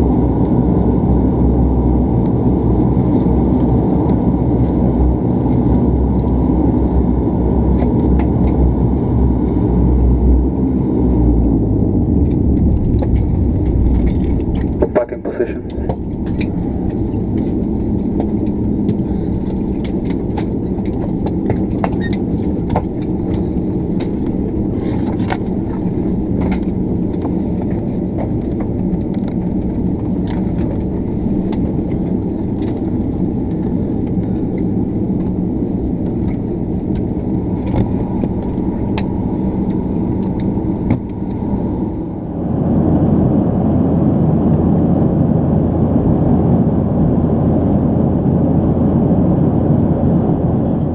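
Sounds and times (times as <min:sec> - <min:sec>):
aircraft engine drone: 0:00.0 - 0:50.9.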